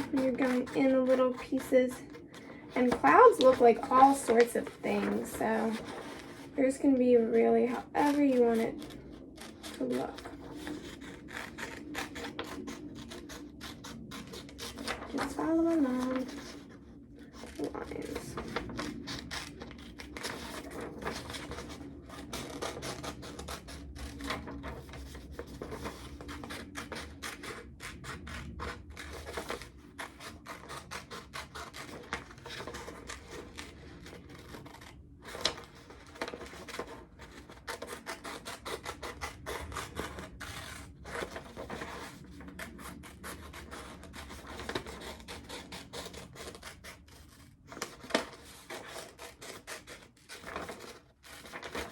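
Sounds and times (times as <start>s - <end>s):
scissors snipping paper: 0.0s - 6.6s, 7.3s - 16.7s, 17.3s - 51.9s
paper rustling: 0.0s - 51.9s.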